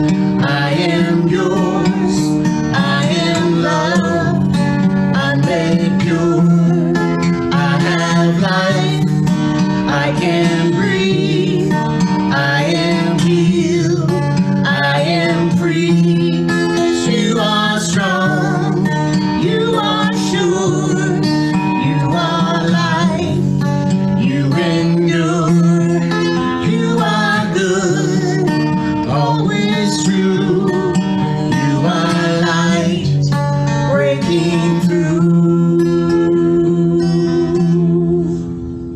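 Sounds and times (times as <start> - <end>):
acoustic guitar chords: 0.0 - 38.9
woman and man singing: 0.3 - 38.6.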